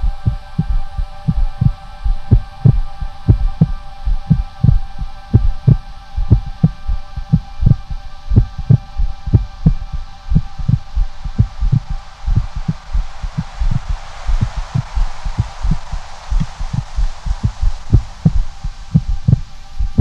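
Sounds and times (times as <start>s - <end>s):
droning hum of held tones: 0.0s - 20.0s
heartbeat-like low thumps: 0.0s - 20.0s.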